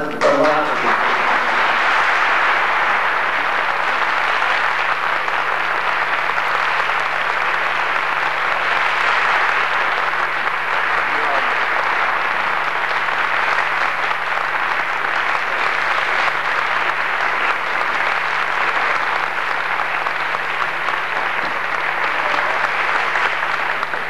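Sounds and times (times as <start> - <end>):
large audience applauding: 0.0 - 24.0.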